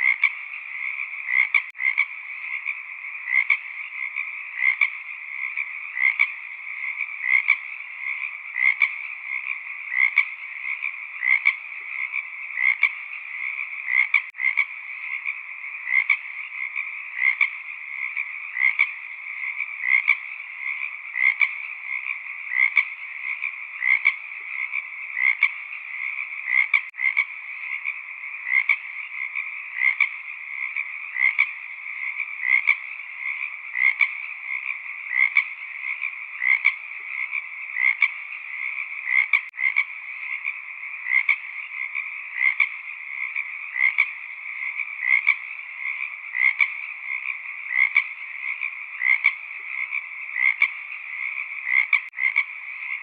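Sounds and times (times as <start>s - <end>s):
frogs calling: 0.0s - 53.0s.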